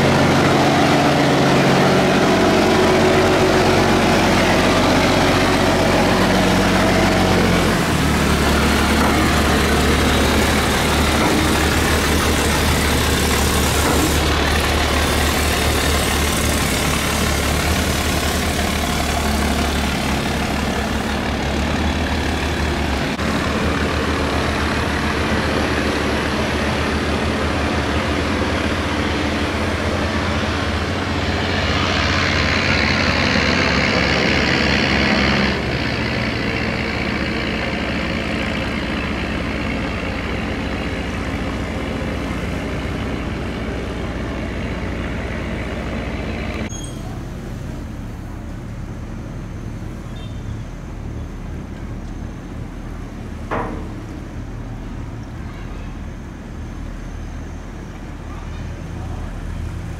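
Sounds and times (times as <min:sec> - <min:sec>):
heavy boat engine throbbing: 0:00.0 - 0:50.1.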